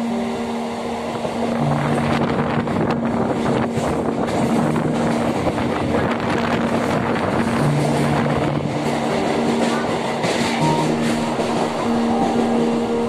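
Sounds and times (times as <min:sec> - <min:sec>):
train rushing on rails: 0:00.0 - 0:13.0
train clatter: 0:01.2 - 0:13.0.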